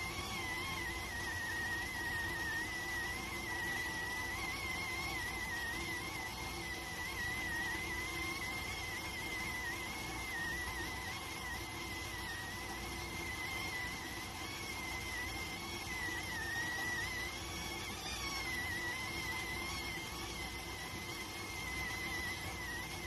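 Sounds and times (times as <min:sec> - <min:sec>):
electric cooker whistling: 0:00.0 - 0:23.0.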